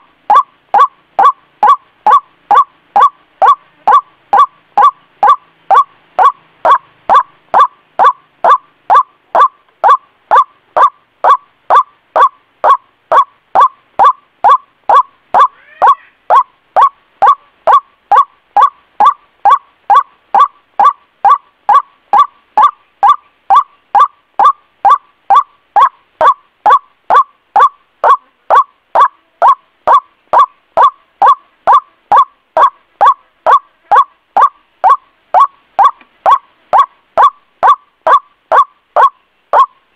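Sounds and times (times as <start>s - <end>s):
waterhen calling: 0.0s - 39.8s.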